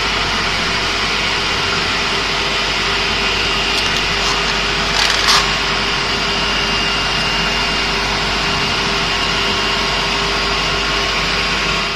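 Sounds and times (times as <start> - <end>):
cutting machine whirring: 0.0 - 11.9.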